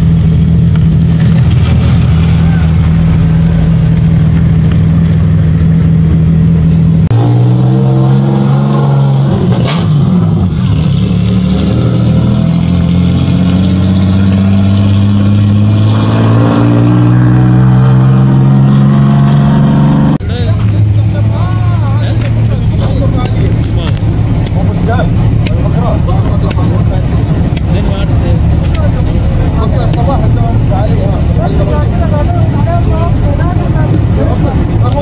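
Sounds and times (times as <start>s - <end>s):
vehicle engines revving high: 0.0s - 35.0s.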